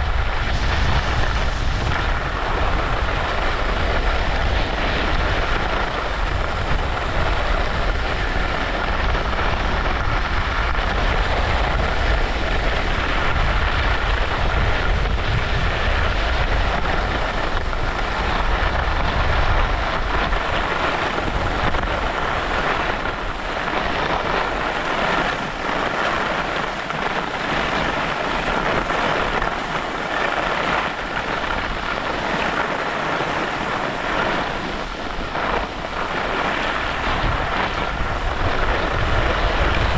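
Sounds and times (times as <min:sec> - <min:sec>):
skis sliding over snow: 0:00.0 - 0:39.9
wind buffeting microphone: 0:00.0 - 0:39.9.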